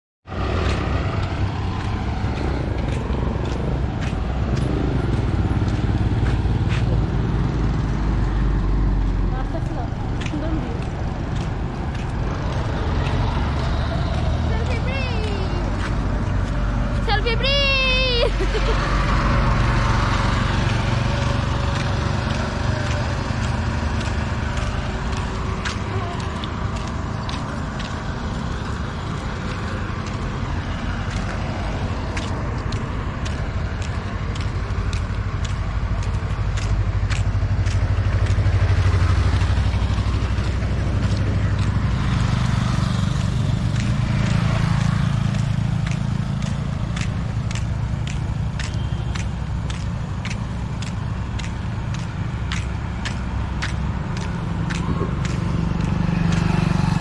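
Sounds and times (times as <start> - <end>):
road traffic noise: 0.2 - 57.0
auto-rickshaw engine running: 0.3 - 57.0
light footsteps: 0.4 - 57.0.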